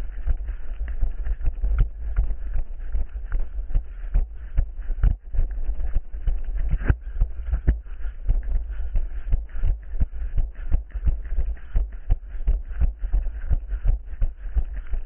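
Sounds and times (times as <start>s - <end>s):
low rumble of jostled camera: 0.0s - 15.0s
running footsteps on forest ground: 0.0s - 15.0s.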